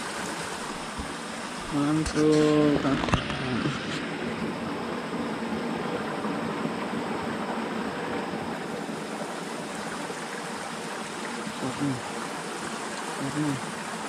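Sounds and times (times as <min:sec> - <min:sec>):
stream rushing over stones: 0:00.0 - 0:14.0.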